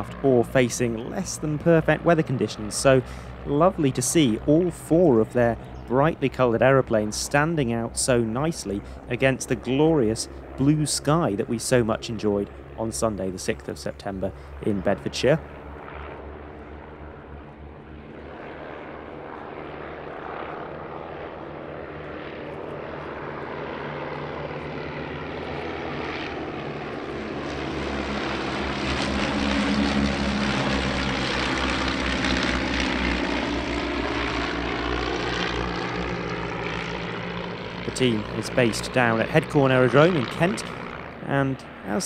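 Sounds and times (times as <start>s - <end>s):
propeller planes flying past: 0.0s - 42.0s.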